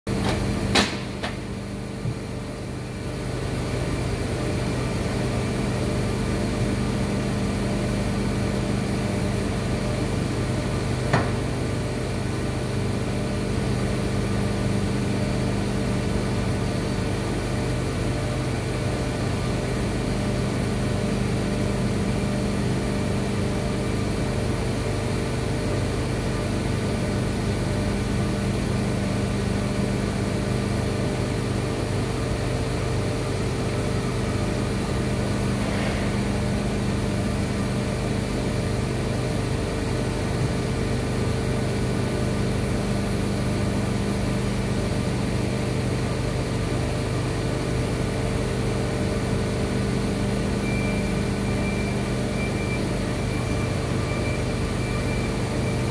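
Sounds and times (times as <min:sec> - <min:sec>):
factory machinery humming: 0:00.1 - 0:55.9.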